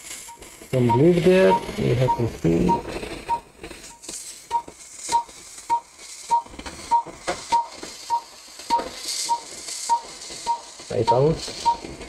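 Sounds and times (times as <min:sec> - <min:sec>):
faint clicks and hiss: 0:00.0 - 0:12.0
short electronic beeps: 0:00.3 - 0:11.8.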